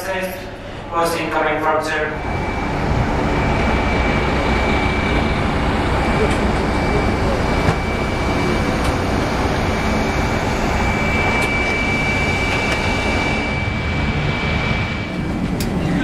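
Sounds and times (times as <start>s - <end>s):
high whine: 0.0s - 16.0s
jet turbines roaring: 0.0s - 16.0s.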